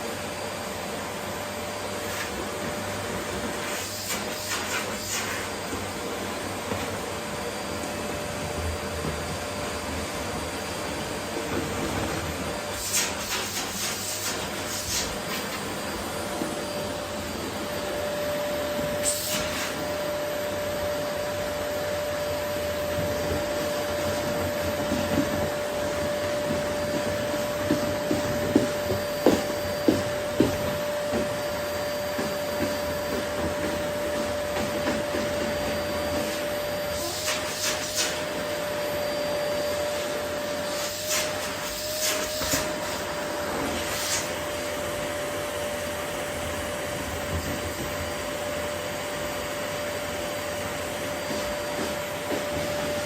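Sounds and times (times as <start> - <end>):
vacuum cleaner whining: 0.0 - 53.0.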